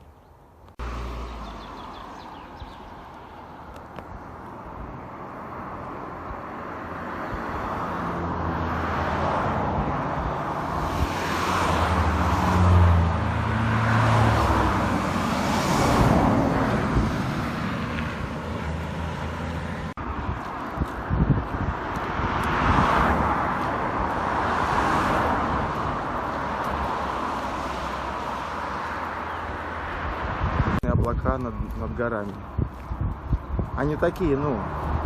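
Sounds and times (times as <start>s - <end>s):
vehicles passing on road: 0.0s - 35.0s.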